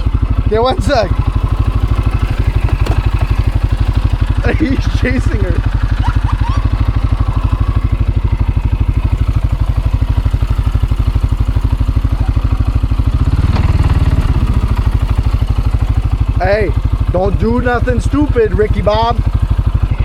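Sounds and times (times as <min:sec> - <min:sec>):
atv engine idling: 0:00.0 - 0:20.0.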